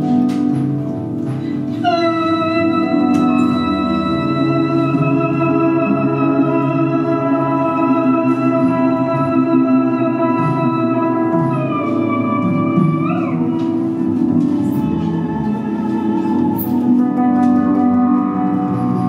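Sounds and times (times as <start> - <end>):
double bass: 0.0 - 19.0
low piano: 0.0 - 19.0.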